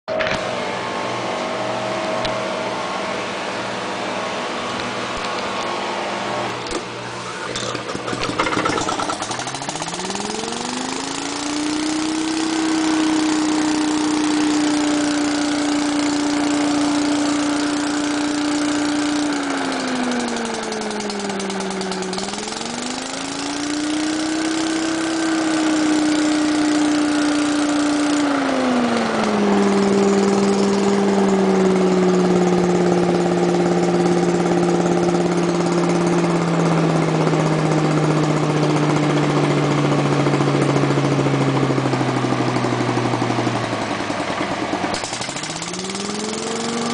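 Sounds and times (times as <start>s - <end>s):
lawn mower engine running: 0.1s - 46.9s.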